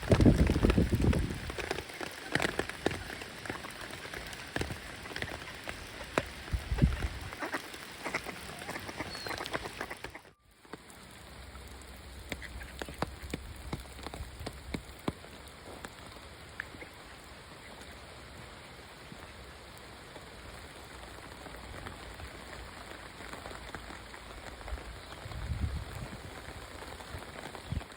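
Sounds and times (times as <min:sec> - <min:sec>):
raindrops ticking close by: 0:00.0 - 0:27.9
steady rain falling: 0:00.0 - 0:27.9.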